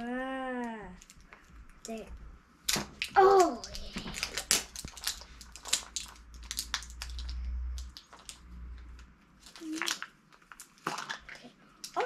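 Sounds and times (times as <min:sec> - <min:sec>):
plastic wrapping crinkling: 0:00.6 - 0:02.0, 0:02.7 - 0:12.0.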